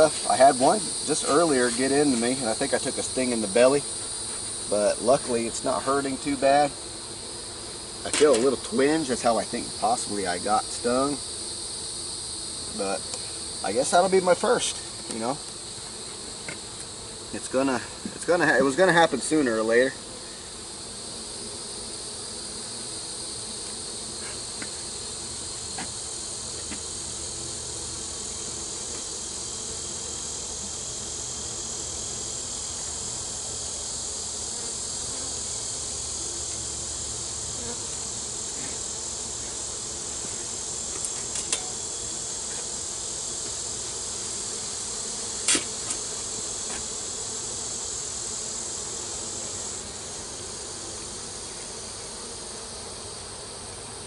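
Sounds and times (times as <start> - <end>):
high insect trill: 0.0 - 54.0
honey bees humming: 0.0 - 54.0.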